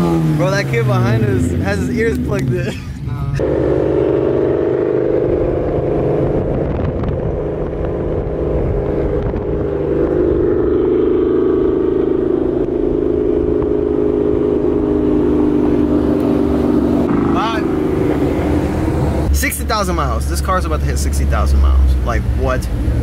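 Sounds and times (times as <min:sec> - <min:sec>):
car engine droning exhaust: 0:00.0 - 0:23.0.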